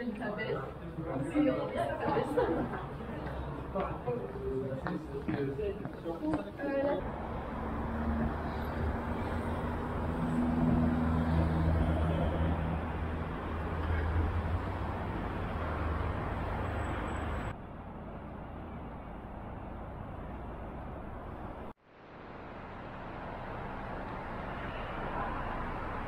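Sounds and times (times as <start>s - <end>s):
city street ambience: 0.0s - 26.0s
vehicle engine humming: 0.0s - 26.0s.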